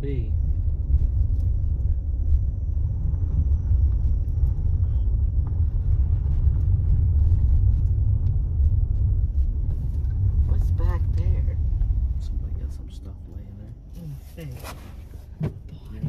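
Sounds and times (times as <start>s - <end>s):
car tyres on brick road: 0.0s - 16.0s.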